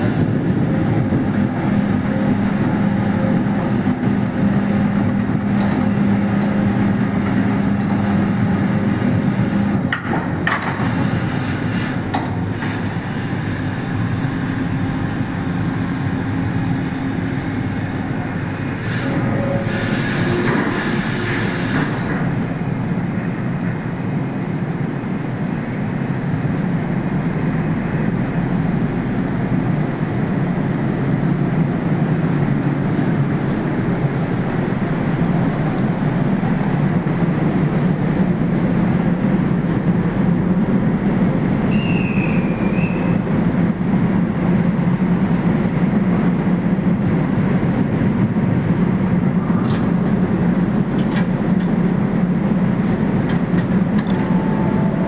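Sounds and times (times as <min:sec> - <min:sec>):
ship engines rumbling: 0:00.0 - 0:55.0.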